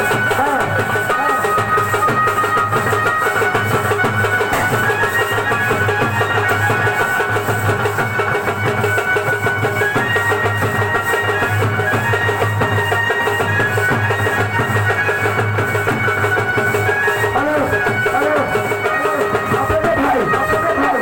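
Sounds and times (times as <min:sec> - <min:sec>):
fast drumming: 0:00.0 - 0:21.0.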